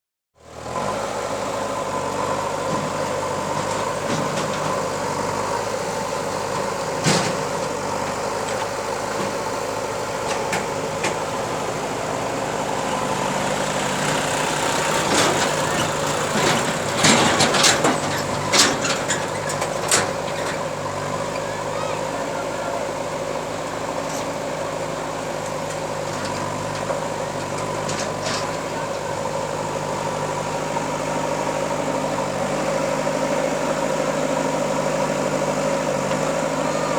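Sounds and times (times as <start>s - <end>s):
diesel engine idling: 0.4s - 36.9s.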